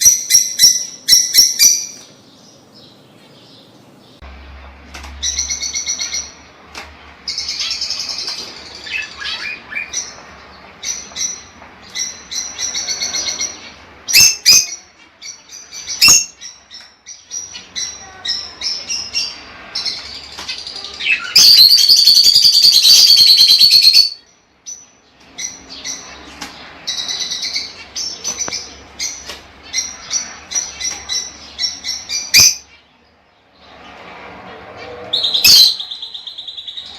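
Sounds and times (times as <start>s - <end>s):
lovebirds chirping: 0.0s - 36.9s.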